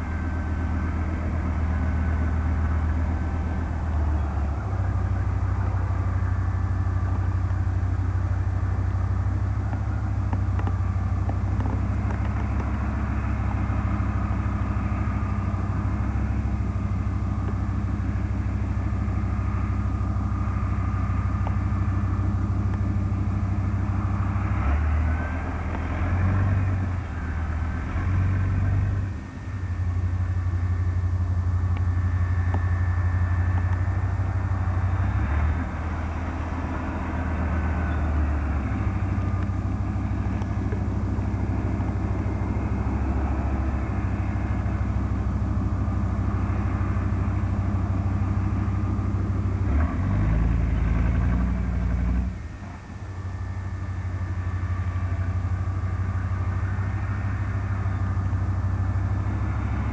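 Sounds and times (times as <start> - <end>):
tracked vehicle engine running hard: 0.0 - 59.9.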